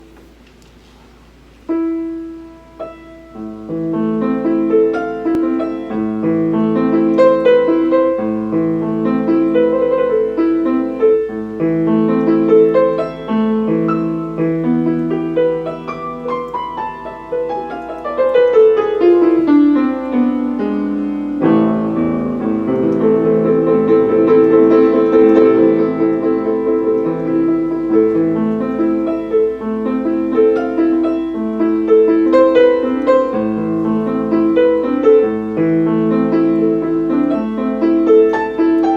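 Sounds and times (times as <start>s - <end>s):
slow chordal piano piece: 1.2s - 38.9s.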